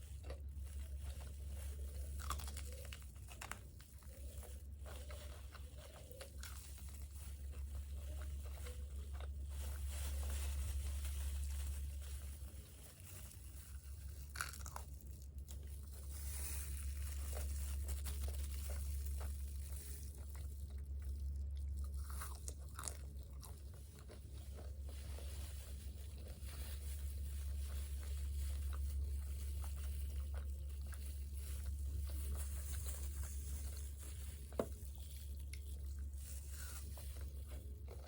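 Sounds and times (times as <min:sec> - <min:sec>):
chewing crispy fried food: 0:00.0 - 0:38.0
steady low hum: 0:00.0 - 0:38.0.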